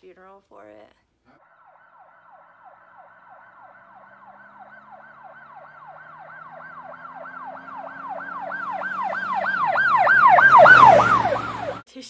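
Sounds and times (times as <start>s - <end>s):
siren yelping: 1.4s - 11.8s.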